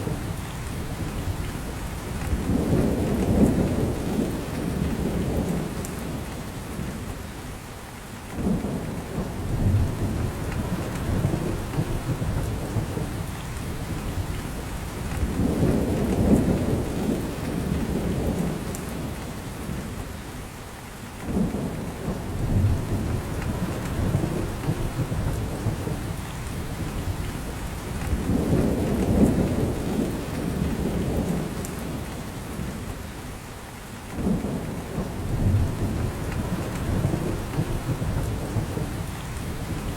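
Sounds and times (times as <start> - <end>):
rain pattering from branches: 0.0 - 7.2, 7.9 - 39.9.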